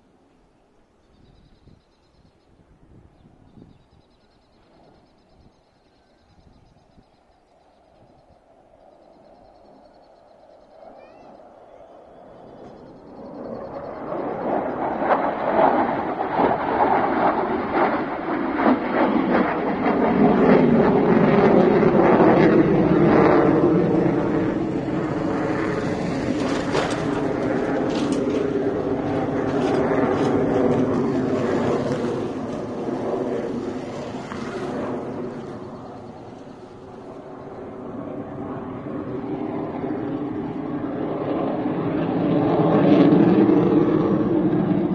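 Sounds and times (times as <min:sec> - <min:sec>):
fighter jet roar: 0:08.4 - 0:44.9.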